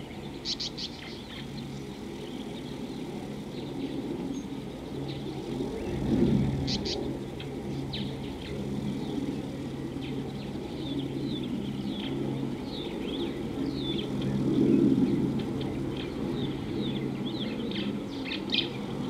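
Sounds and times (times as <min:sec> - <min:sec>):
birds chirping: 0:00.0 - 0:19.0
low hum and rumble: 0:00.0 - 0:19.0.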